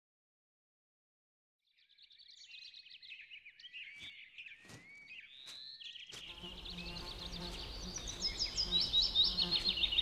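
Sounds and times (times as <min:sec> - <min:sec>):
birds chirping: 0:01.7 - 0:10.0.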